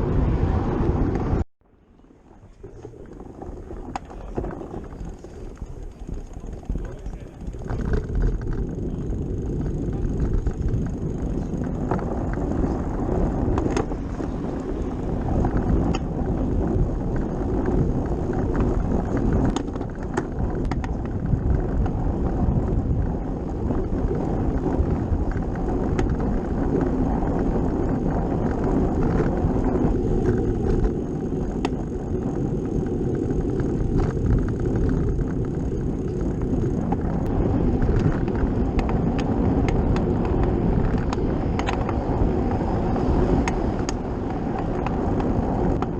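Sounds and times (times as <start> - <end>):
bicycle tyres on tarmac: 0.0 - 45.9
bicycle clicks and rattles: 2.4 - 45.9.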